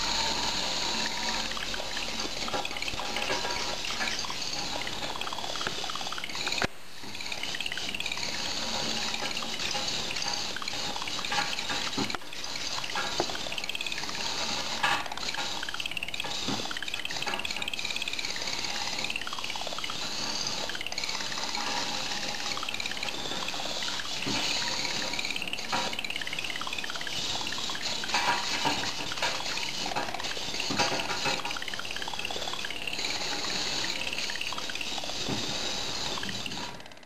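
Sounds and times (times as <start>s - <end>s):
small motors whirring: 0.0s - 37.0s.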